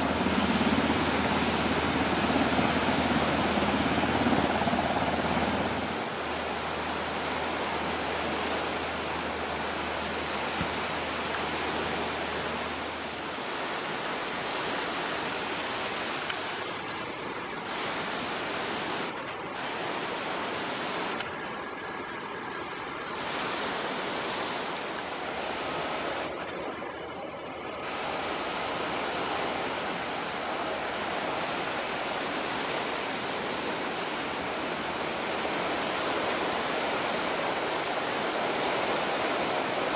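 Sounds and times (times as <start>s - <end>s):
aircraft turbine engines roaring: 0.0s - 39.9s.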